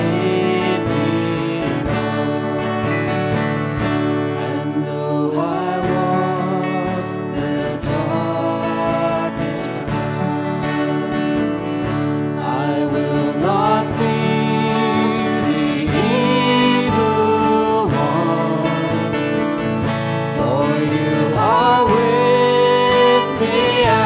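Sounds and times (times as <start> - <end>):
voices singing: 0.0 - 3.2, 4.2 - 24.0
acoustic guitar playing: 0.0 - 24.0.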